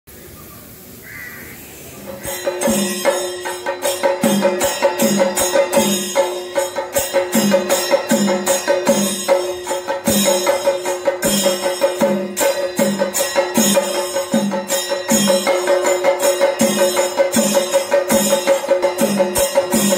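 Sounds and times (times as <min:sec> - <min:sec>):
cymbal shimmer: 0:01.8 - 0:19.9
fast drum strokes: 0:02.0 - 0:19.9
deep recurring drum beat: 0:02.1 - 0:19.9.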